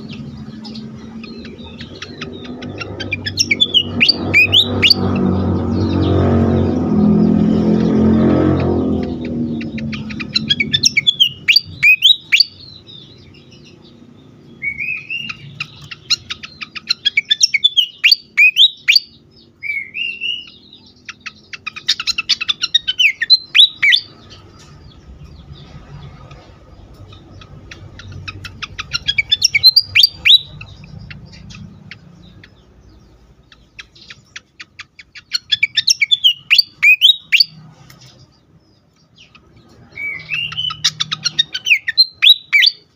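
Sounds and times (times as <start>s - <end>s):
bird chattering and whistling: 0.0s - 42.9s.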